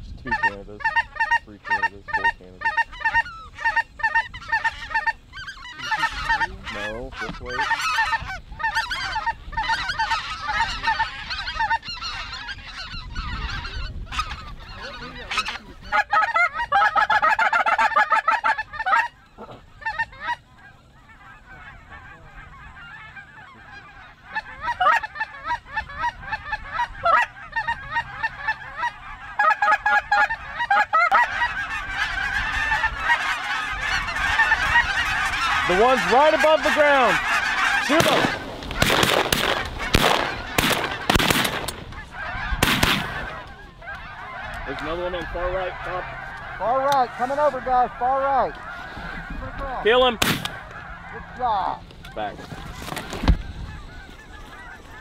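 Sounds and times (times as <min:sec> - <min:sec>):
geese honking: 0:00.2 - 0:55.0.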